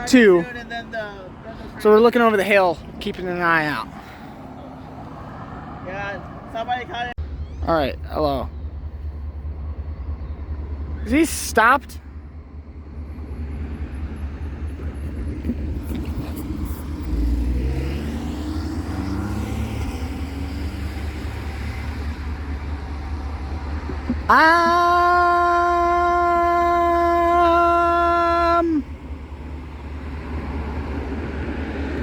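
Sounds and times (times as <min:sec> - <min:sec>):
low outdoor rumble: 0:00.0 - 0:17.8, 0:20.1 - 0:32.0.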